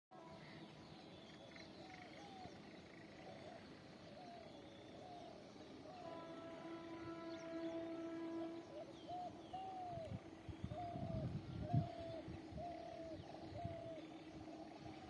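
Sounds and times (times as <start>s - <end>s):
faint outdoor ambience: 0.1s - 15.0s.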